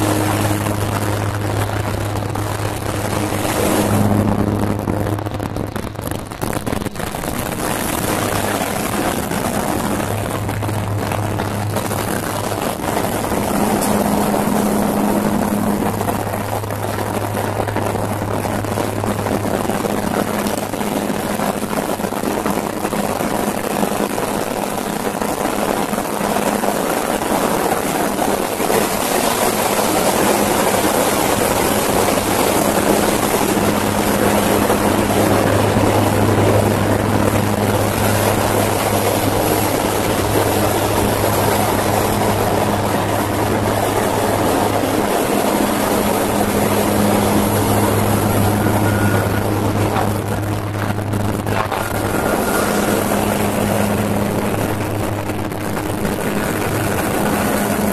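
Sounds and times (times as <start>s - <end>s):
propeller aircraft engines droning: 0.0s - 57.9s.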